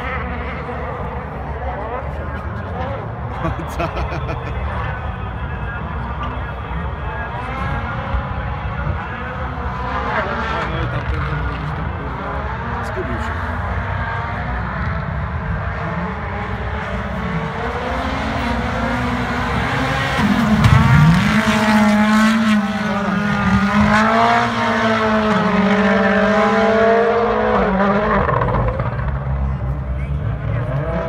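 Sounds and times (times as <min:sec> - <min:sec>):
rally car engine at high revs: 0:00.0 - 0:31.0.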